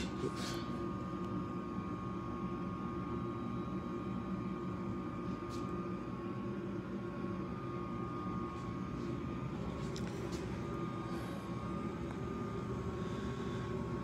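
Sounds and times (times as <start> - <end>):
electric fan whirring: 0.0 - 14.0.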